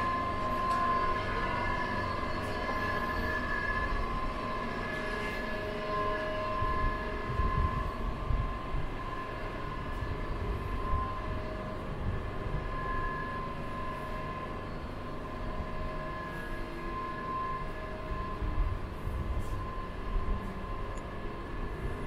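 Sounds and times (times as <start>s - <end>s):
metro train rumbling: 0.0s - 22.0s
steady whining tones: 0.0s - 22.0s.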